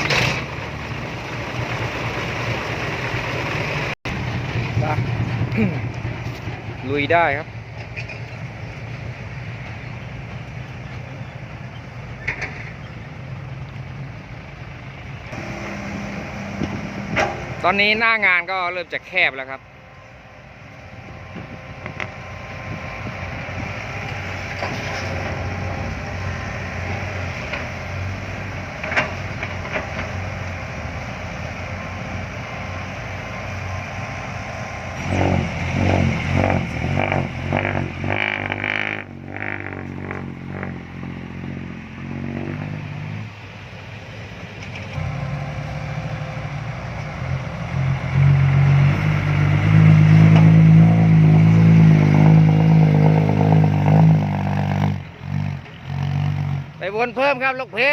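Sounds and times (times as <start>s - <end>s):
truck diesel engine revving: 0.0s - 12.2s, 14.4s - 57.9s.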